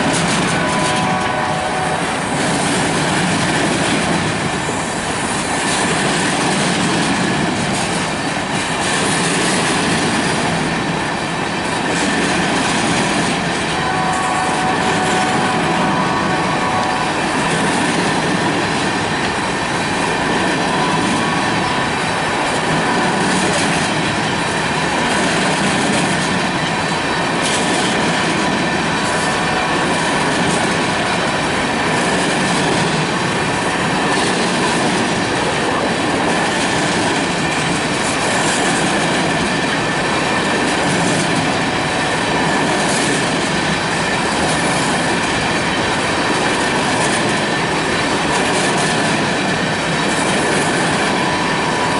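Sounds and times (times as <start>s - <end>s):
train wheels clacking on rails: 0.0s - 51.9s.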